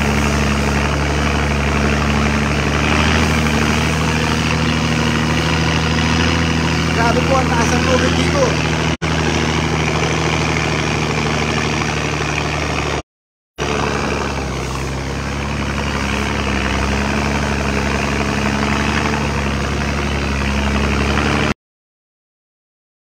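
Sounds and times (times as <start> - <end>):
engine idling: 0.0 - 13.0, 13.6 - 21.6.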